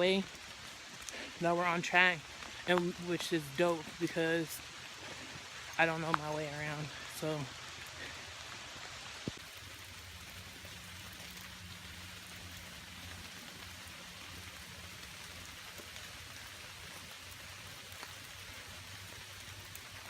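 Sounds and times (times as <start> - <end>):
rain on leaves: 0.0 - 20.0.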